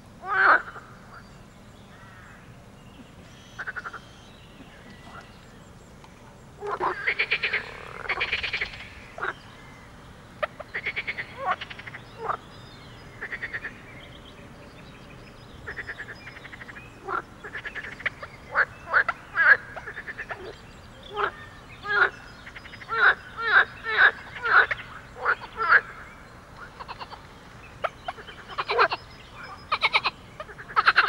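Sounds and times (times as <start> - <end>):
frogs croaking: 0.0 - 31.0.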